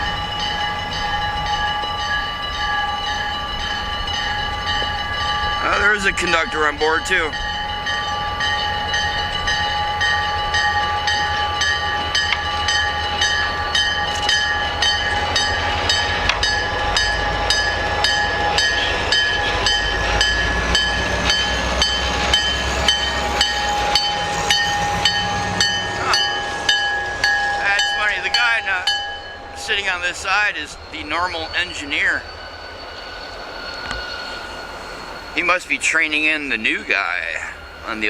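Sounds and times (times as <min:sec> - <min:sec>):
bell ringing: 0:00.0 - 0:38.0
diesel locomotive rumbling past: 0:00.0 - 0:38.0.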